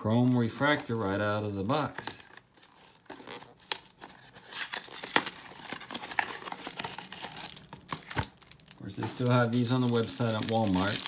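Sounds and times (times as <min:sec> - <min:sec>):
wrapper crinkling: 0:01.8 - 0:11.0
cardboard tearing: 0:01.9 - 0:11.0.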